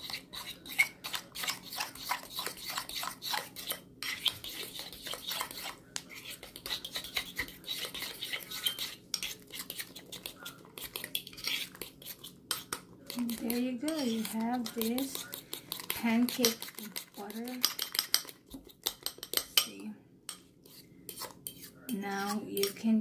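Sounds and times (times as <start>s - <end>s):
spoon clinking and scraping bowl: 0.0s - 22.9s.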